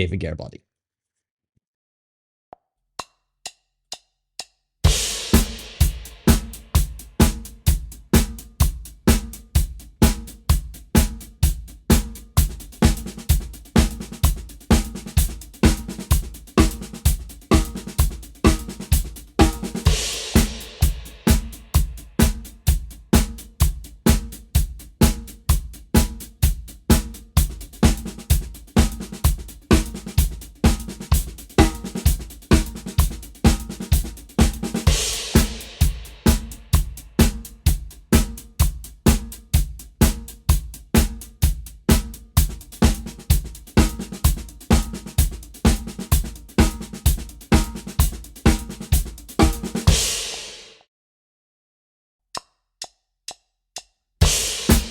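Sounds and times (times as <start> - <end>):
drum kit playing: 4.8 - 50.8, 54.2 - 54.9.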